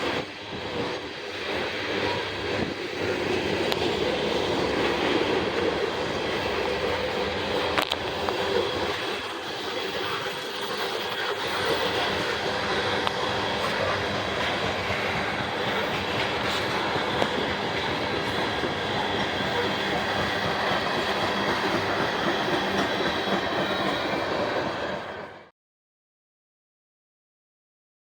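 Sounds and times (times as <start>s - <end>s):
train wheels clattering on rails: 0.0s - 25.4s.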